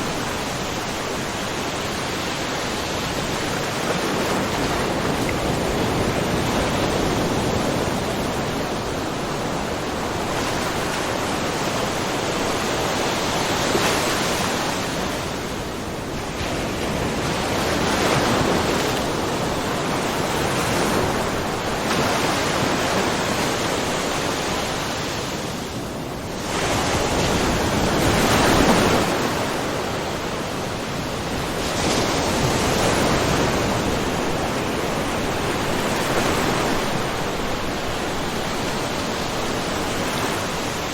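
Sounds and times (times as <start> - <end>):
waves lapping on rocky shore: 0.0 - 40.9.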